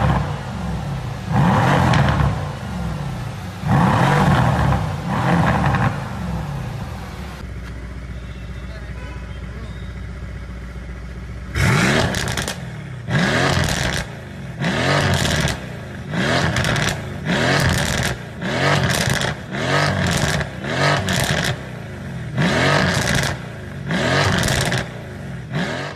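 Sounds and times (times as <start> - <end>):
car engine revving: 0.0 - 7.5, 11.5 - 25.9
engine idling: 0.0 - 25.5.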